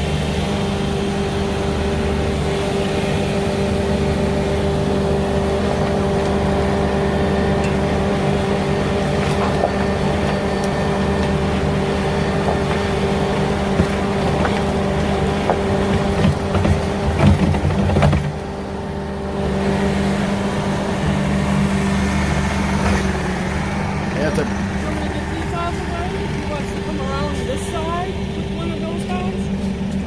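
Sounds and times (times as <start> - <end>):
digging machine engine rumbling: 0.0 - 30.0.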